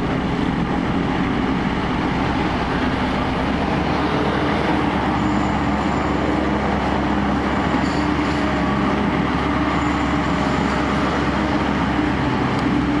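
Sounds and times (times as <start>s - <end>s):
road roller engine rumbling: 0.0s - 13.0s.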